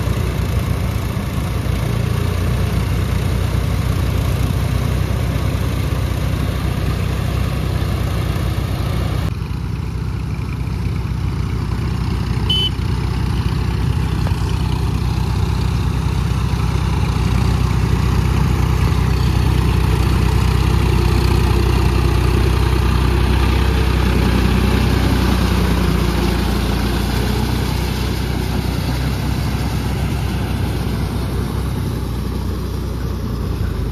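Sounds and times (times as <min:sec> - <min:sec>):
tractor diesel engines running: 0:00.0 - 0:33.9.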